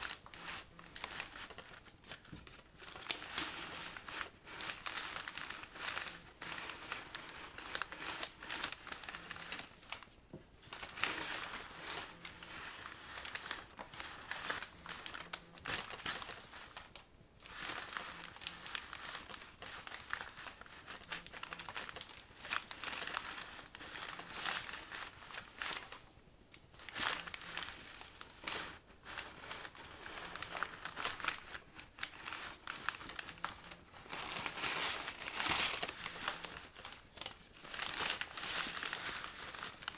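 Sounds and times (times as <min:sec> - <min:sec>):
paper bags crinkling: 0:00.0 - 0:39.9.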